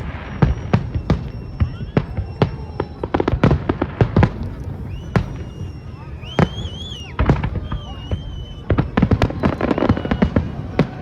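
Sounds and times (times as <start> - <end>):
crackling bangs: 0.0 - 11.0
firework bangs: 0.0 - 11.0
high wavering firework whistles: 0.0 - 11.0.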